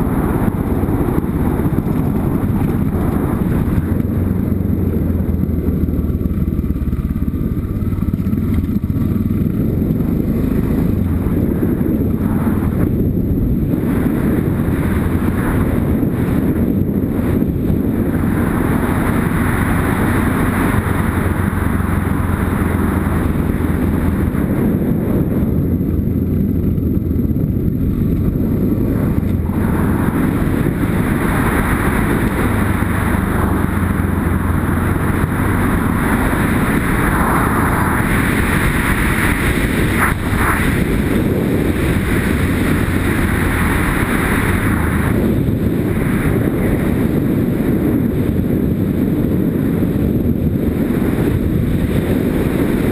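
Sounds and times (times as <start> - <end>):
motorcycle engine running: 0.0 - 52.9
wind rushing over microphone: 0.0 - 52.9.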